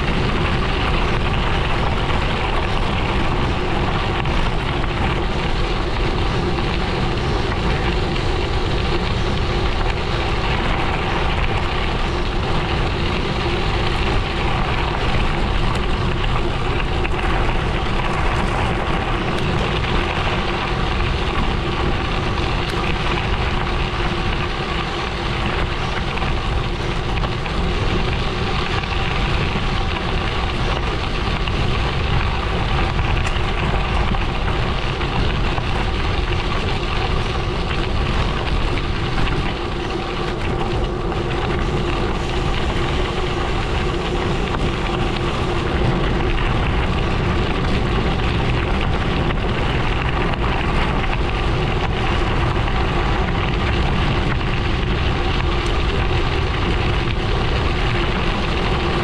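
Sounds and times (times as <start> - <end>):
bike tyres crunching on gravel: 0.0 - 59.0
wind rumbling on microphone: 0.0 - 59.0.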